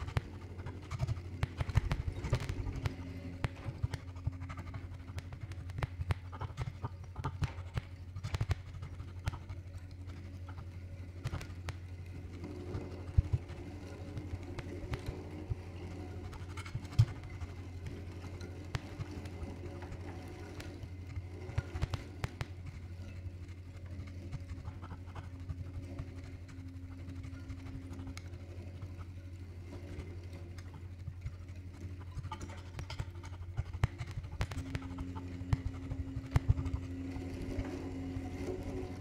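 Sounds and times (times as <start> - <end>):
low drone: 0.0 - 39.0.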